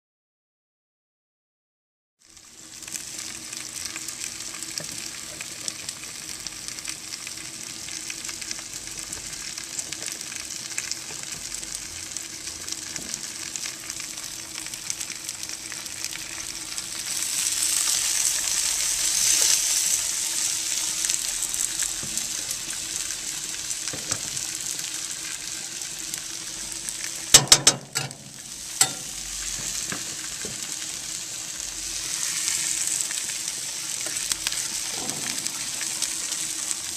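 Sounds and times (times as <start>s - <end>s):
onions sizzling in skillet: 2.2s - 36.9s.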